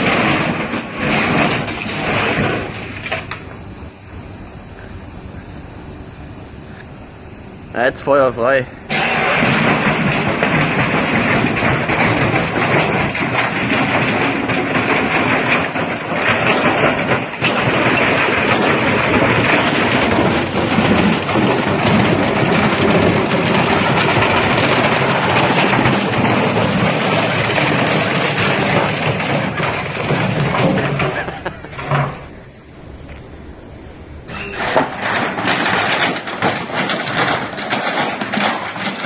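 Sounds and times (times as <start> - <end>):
washing machine rattling with stone: 0.0 - 3.5, 8.2 - 32.9, 34.2 - 39.0.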